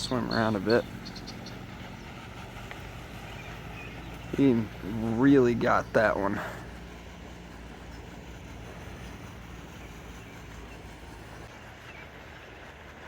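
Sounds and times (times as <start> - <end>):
low even hum: 0.0 - 13.0.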